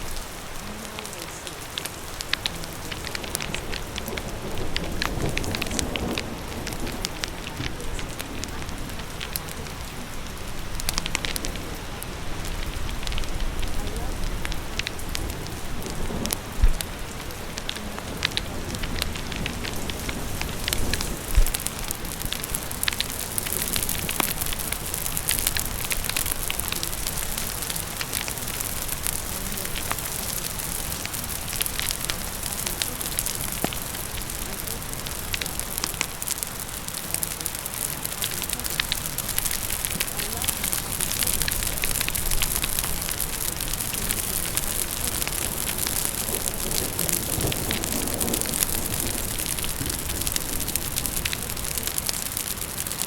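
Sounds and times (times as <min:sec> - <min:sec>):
fire crackling and popping: 0:00.0 - 0:53.0
steady rain: 0:00.0 - 0:53.0.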